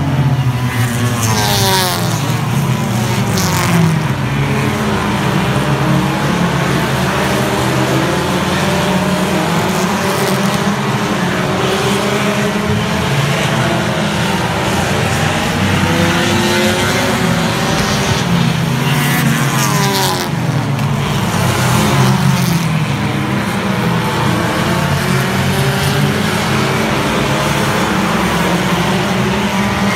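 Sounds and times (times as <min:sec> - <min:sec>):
race car engines droning: 0:00.0 - 0:29.9.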